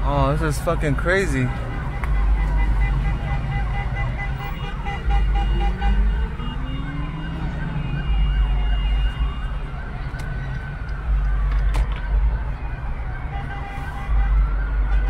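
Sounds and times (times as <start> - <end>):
emergency sirens wailing: 0.0 - 15.0.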